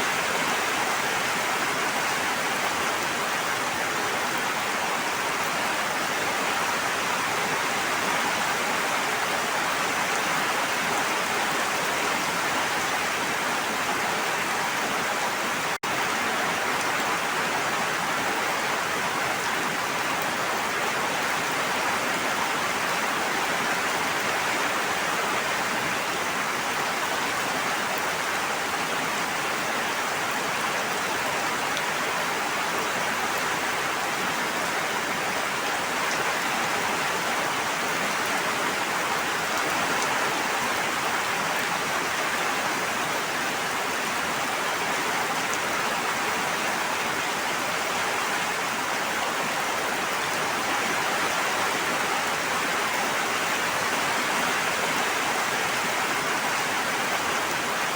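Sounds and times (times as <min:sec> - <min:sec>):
steady water noise: 0:00.0 - 0:57.9.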